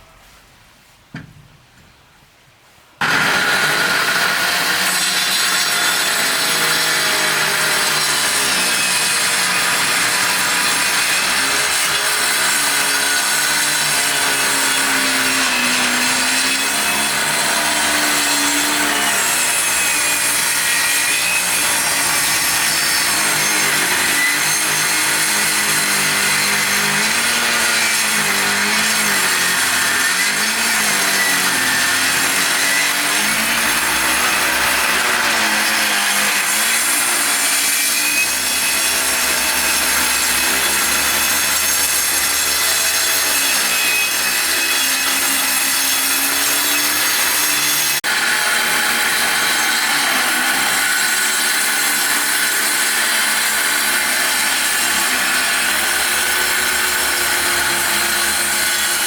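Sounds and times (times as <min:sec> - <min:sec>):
power saw cutting wood: 0:03.0 - 0:59.0.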